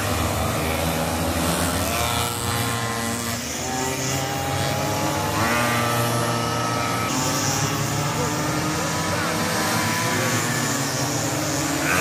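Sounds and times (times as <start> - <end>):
small two-stroke engines racing: 0.0 - 12.0.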